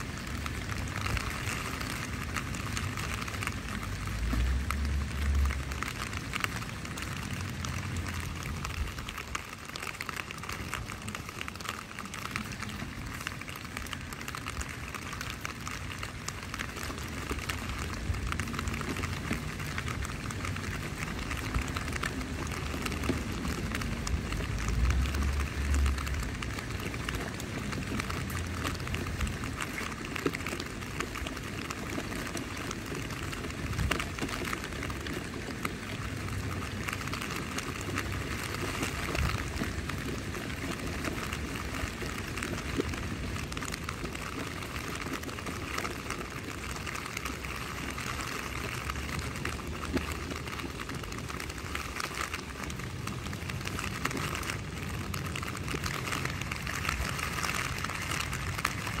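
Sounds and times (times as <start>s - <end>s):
rain pattering on tent fabric: 0.0s - 59.0s
single raindrops: 0.0s - 59.0s.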